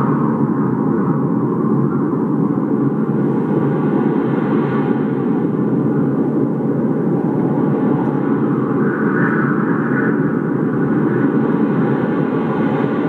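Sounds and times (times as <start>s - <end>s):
muffled rushing noise: 0.0s - 13.0s.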